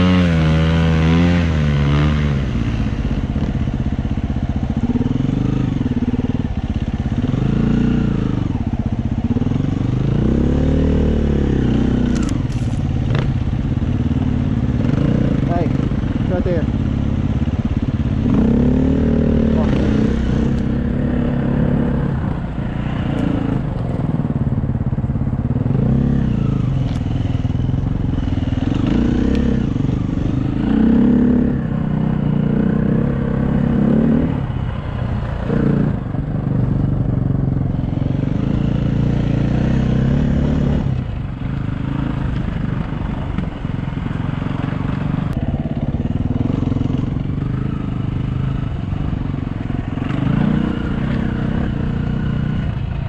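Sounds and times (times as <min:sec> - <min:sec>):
dirt bike engine revving: 0:00.0 - 0:03.7, 0:04.7 - 0:24.4, 0:25.5 - 0:34.5, 0:37.3 - 0:53.0.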